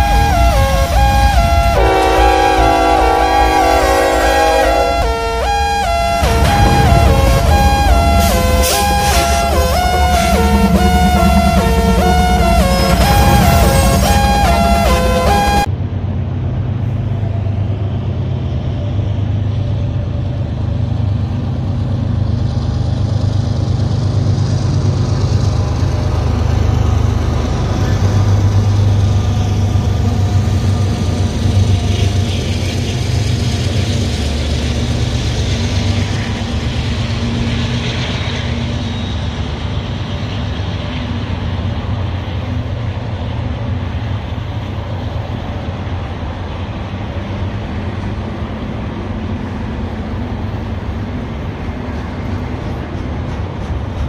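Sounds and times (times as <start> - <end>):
diesel locomotives rumbling: 0.0 - 54.0
train cars rolling on rails: 0.0 - 54.0.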